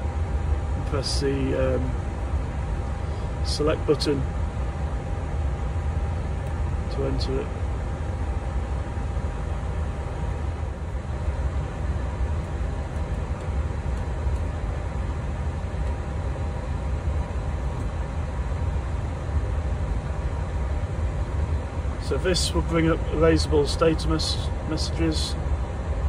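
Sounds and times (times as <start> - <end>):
air-conditioning airflow: 0.0 - 26.0
cockpit rumbling hum: 0.0 - 26.0
faint steady whine: 0.0 - 26.0.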